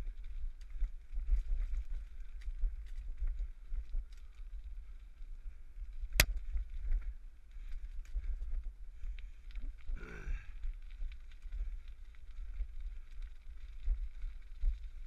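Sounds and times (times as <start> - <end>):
small rattles and clicks: 0.0 - 9.9, 10.5 - 15.0
bicycle tyres rumbling on dirt: 0.0 - 15.0.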